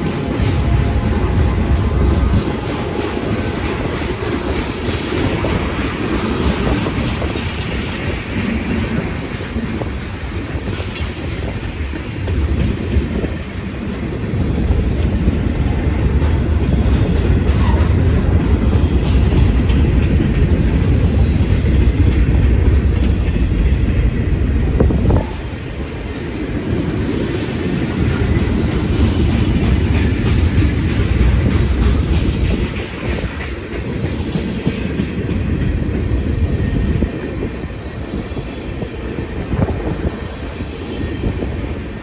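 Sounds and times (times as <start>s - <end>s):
wheels clacking over rail joints: 0.0s - 37.8s
train wheels rumbling: 0.0s - 42.0s.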